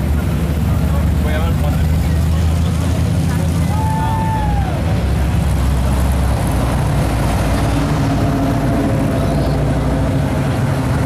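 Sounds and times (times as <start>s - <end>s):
vehicles going by: 0.0s - 11.0s.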